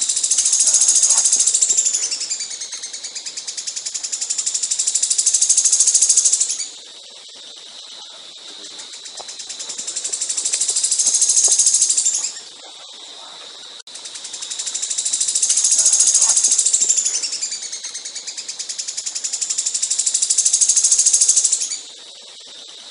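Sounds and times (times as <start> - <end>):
songbird trilling: 0.0 - 6.7, 8.6 - 13.4, 14.5 - 21.8.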